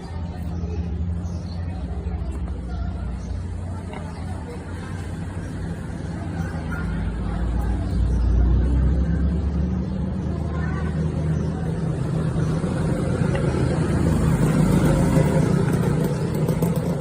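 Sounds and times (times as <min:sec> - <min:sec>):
machinery rumbling roar: 0:00.0 - 0:17.0.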